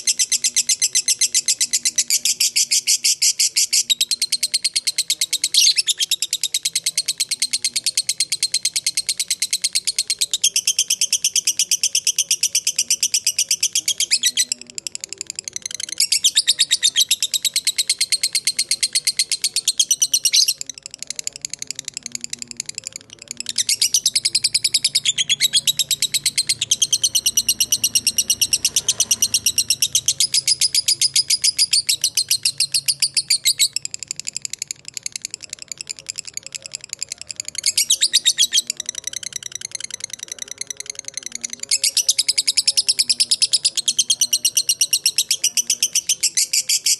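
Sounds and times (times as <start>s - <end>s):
lovebird rapid high chatter: 0.0s - 46.9s.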